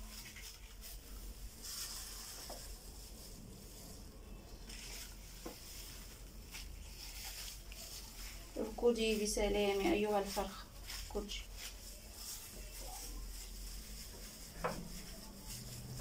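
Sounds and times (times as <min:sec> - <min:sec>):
plastic bag rustling: 0:00.0 - 0:16.0.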